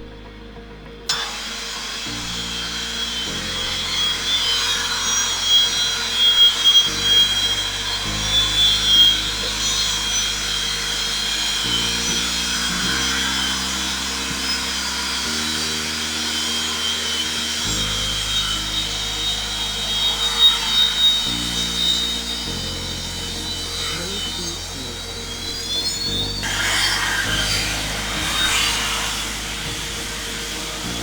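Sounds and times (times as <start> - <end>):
background music sustained chords: 0.0 - 31.0
jet engines whining: 0.0 - 31.0.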